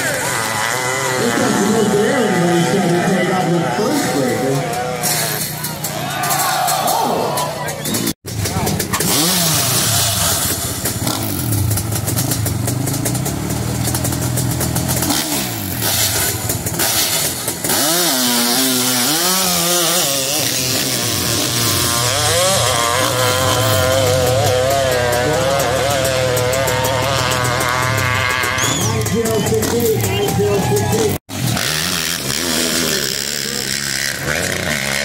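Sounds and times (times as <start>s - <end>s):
motorcycle engine revving hard: 0.0s - 7.2s, 7.8s - 35.0s.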